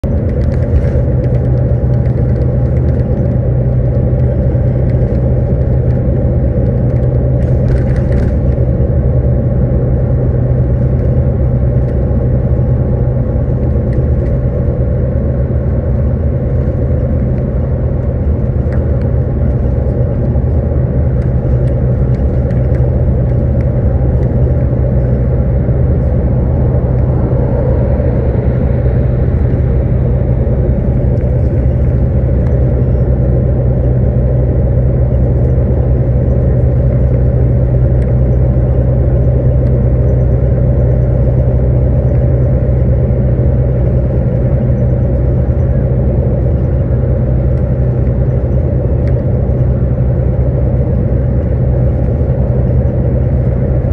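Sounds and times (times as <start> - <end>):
vehicle rumble from inside cabin: 0.0 - 53.9.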